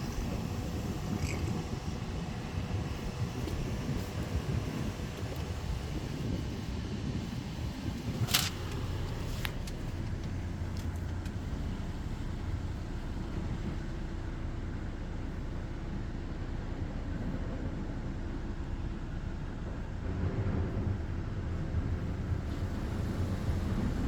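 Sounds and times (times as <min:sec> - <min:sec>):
car wash machinery rumble: 0:00.0 - 0:24.0.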